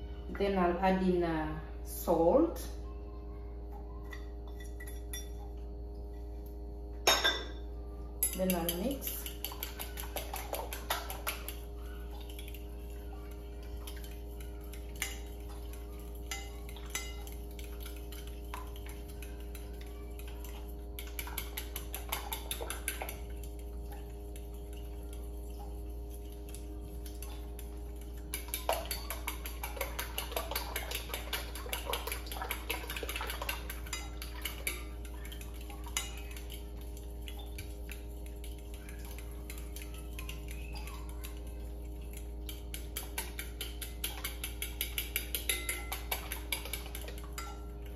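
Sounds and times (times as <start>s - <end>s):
whisk clinking against bowl: 8.2s - 47.9s.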